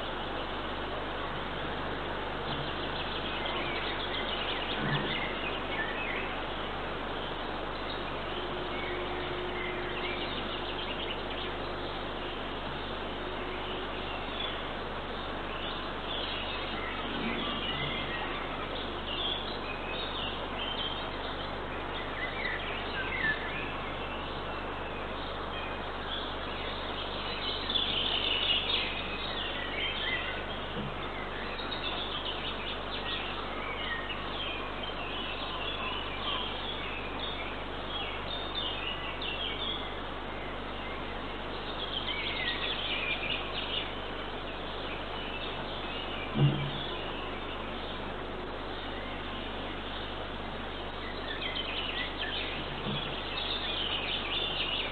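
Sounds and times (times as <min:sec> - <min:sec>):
small birds chirping and singing: 0:00.0 - 0:54.9
steady background hiss: 0:00.0 - 0:54.9.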